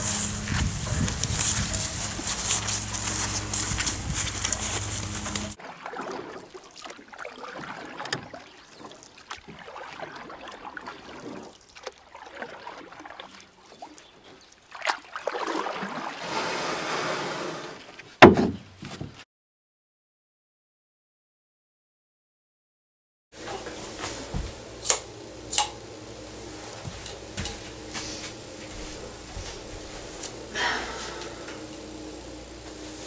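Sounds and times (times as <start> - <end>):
boat moving through water: 0.0 - 18.1, 23.4 - 33.0.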